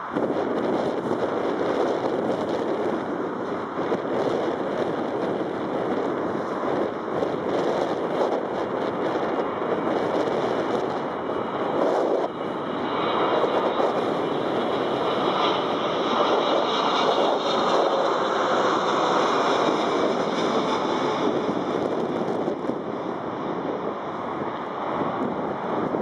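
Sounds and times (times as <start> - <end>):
jet engine roar overhead: 0.0 - 26.0.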